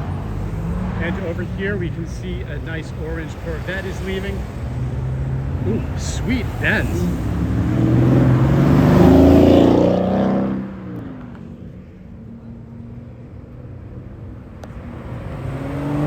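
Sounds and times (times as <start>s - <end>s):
car engine revving: 0.0s - 12.0s, 14.2s - 16.0s
car accelerating: 0.0s - 16.0s
idling traffic hum: 0.0s - 16.0s.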